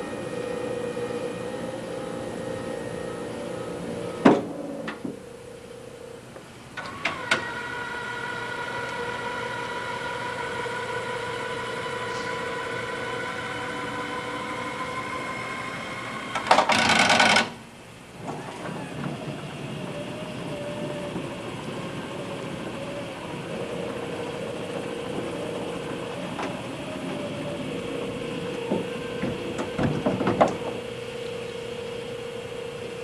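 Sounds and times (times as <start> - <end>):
electric motor whining: 0.0 - 4.8, 6.8 - 17.4, 18.2 - 33.0.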